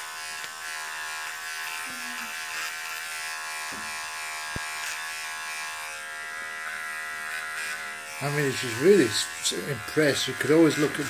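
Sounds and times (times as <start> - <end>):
electric razor buzzing: 0.0 - 11.0.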